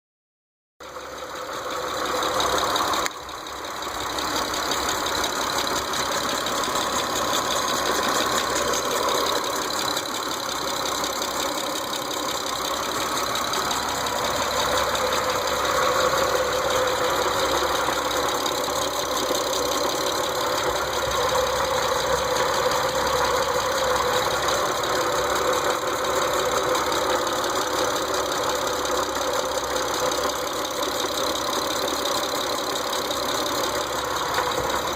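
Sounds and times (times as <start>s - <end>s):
car engine idling: 0.8s - 34.9s
engine ticking: 0.8s - 34.9s.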